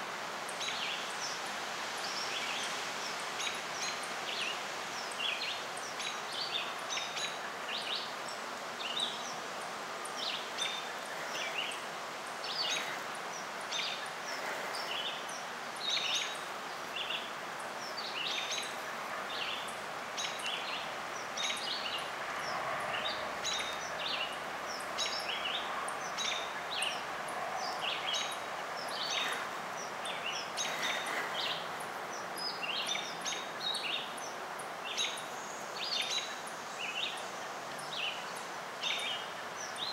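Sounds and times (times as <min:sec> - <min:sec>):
outdoor ambience hiss: 0:00.0 - 0:39.9
small birds chirping: 0:00.5 - 0:39.9.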